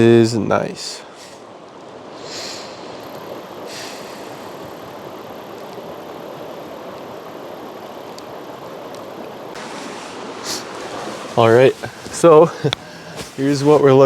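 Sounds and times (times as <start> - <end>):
mountain river rushing: 0.0 - 14.0.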